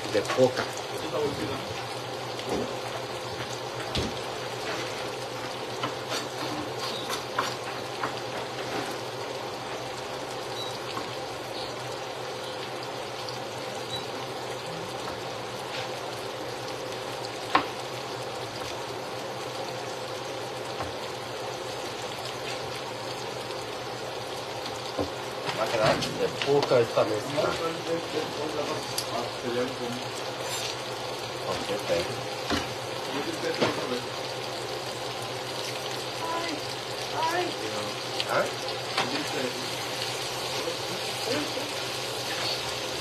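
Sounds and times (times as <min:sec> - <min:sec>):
food sizzling in a pan: 0:00.0 - 0:43.0.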